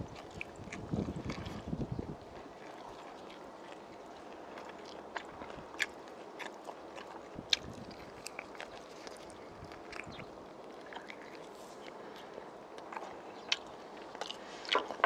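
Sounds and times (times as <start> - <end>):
wet chewing and mouth clicks: 0.0 - 15.0.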